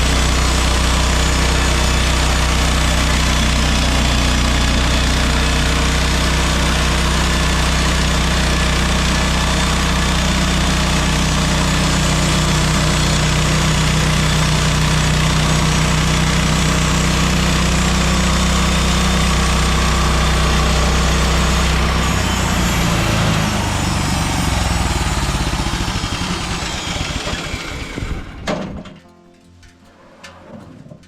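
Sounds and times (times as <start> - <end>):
sawmill gas engine running: 0.0 - 29.0.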